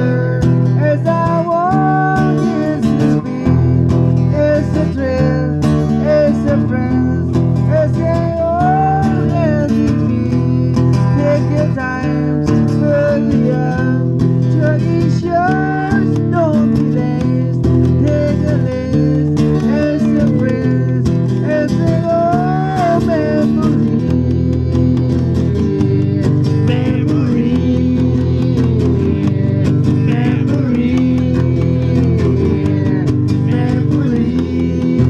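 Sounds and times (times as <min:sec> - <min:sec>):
blues guitar: 0:00.0 - 0:35.0.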